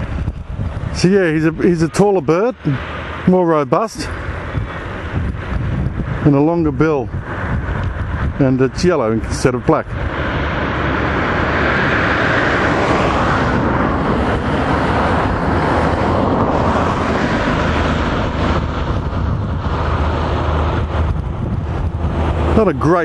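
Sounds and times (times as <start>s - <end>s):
low engine hum: 0.0s - 23.0s
road traffic passing: 0.0s - 23.0s.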